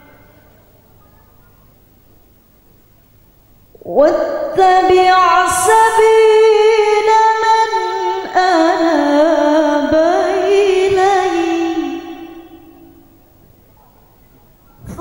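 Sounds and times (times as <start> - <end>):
woman reciting melodically: 0.0 - 1.8, 3.0 - 13.4, 14.8 - 15.0.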